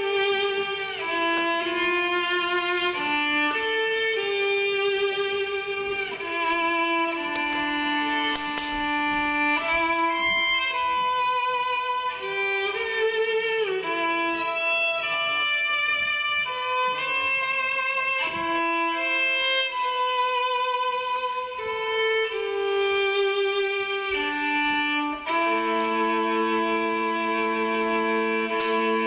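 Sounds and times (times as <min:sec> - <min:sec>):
violin slow melody: 0:00.0 - 0:29.0.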